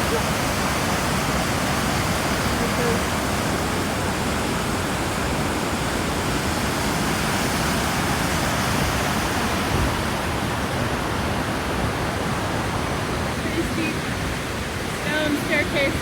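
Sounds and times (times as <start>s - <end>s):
rushing whitewater: 0.0s - 16.0s.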